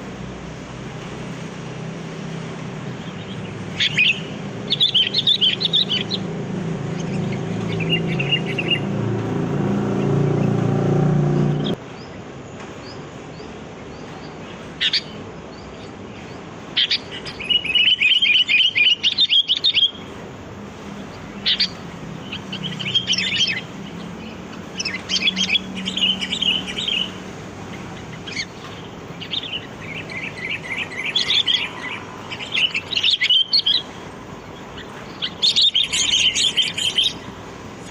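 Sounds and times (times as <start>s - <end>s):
birds chattering calls: 0.0s - 37.9s.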